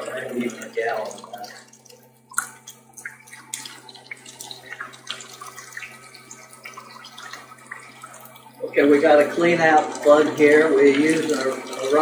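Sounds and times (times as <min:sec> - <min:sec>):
water trickling into plastic bucket: 0:00.0 - 0:12.0.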